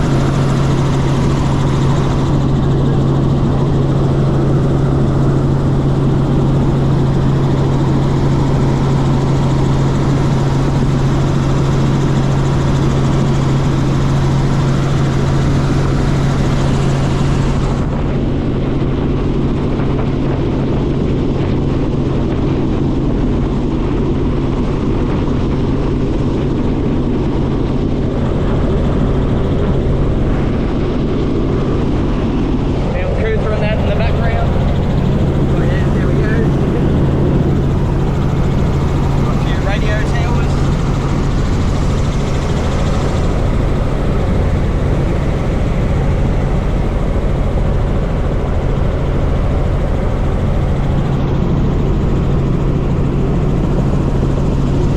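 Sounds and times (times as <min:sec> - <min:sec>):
helicopter engine and rotors droning: 0:00.0 - 0:54.9.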